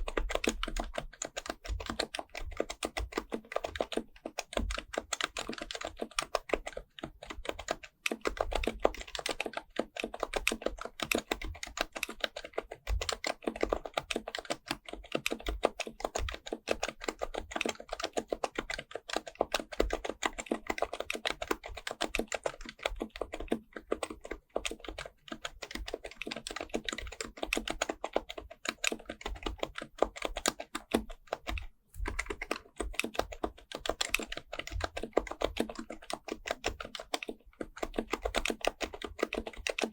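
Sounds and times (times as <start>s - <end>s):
soft muted keyboard typing: 0.0s - 39.9s.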